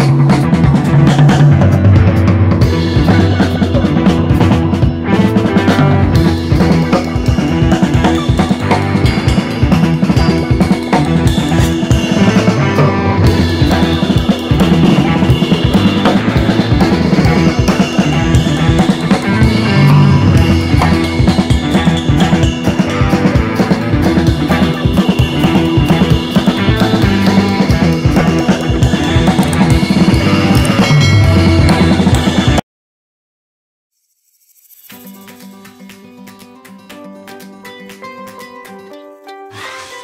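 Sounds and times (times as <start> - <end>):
rock music with drums and bass: 0.0 - 32.6.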